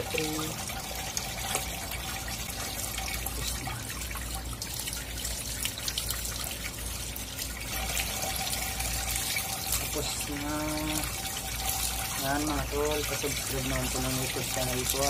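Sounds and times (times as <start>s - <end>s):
water running from hose: 0.0s - 15.0s.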